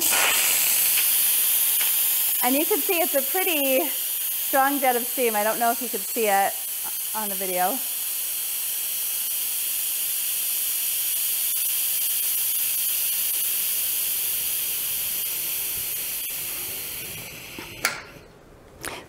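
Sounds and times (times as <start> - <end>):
steam hissing from valve: 0.0 - 18.2.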